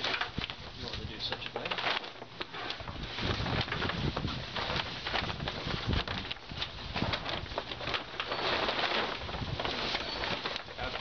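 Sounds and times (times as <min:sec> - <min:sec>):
plastic tarp rustling: 0:00.0 - 0:11.0.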